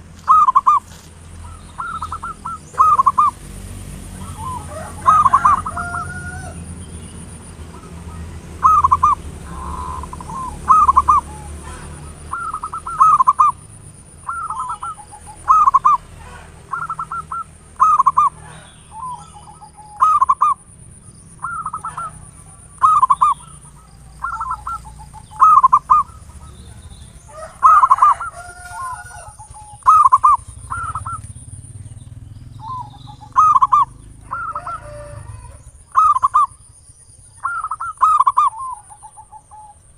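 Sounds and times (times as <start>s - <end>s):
dove cooing: 0.0s - 36.7s, 37.3s - 39.9s.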